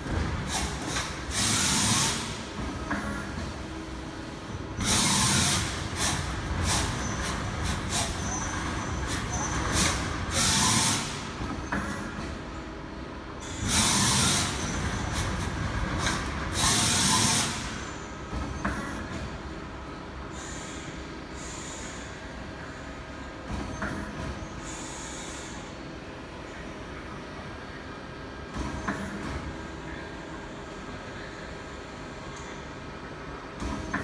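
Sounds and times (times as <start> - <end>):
workshop machine hum: 0.0 - 34.0.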